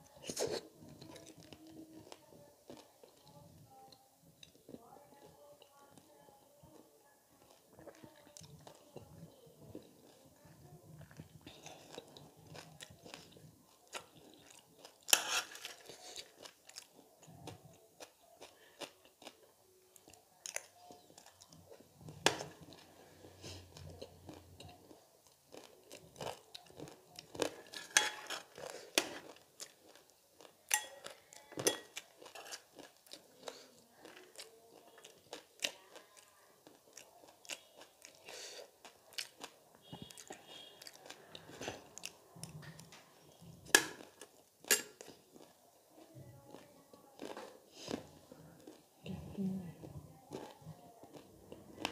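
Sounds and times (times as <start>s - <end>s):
crunchy chewing: 7.4s - 48.9s, 50.3s - 51.9s.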